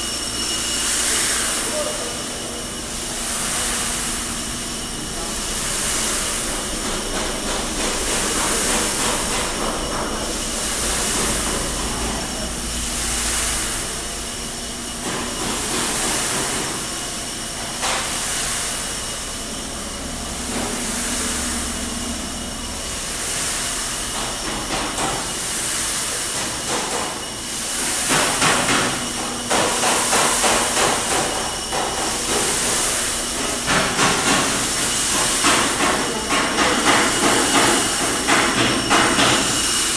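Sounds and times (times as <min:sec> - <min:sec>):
coffee roaster hiss and rumble: 0:00.0 - 0:39.9
pulsing high hiss: 0:00.0 - 0:39.9.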